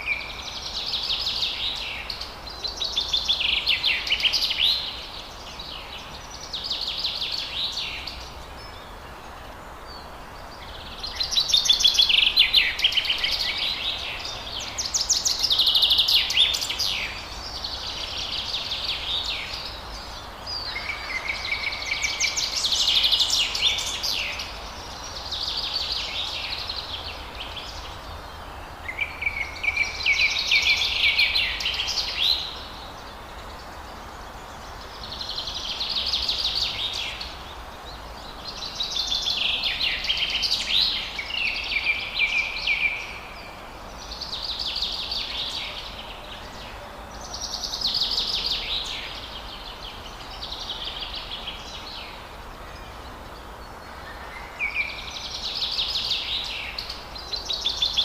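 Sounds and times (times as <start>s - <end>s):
songbird trilling song: 0.0s - 9.0s, 9.9s - 58.0s
forest ambience hiss: 0.0s - 58.0s.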